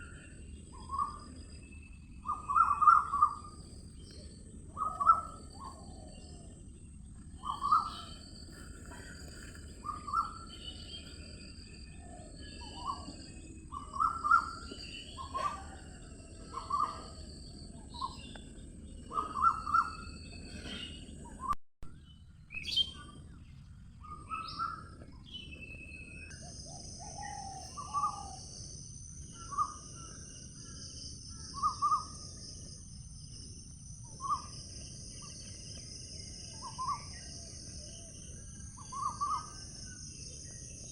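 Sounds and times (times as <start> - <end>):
high insect drone: 0.0 - 21.3, 24.6 - 40.9
birds chirping: 0.0 - 40.9.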